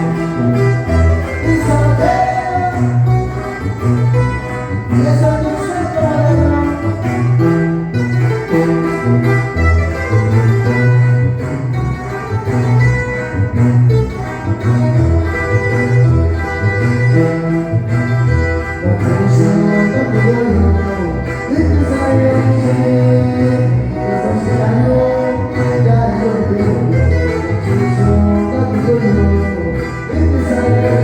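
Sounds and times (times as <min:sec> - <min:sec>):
live band music: 0:00.0 - 0:31.0
tuba bass line: 0:00.0 - 0:31.0.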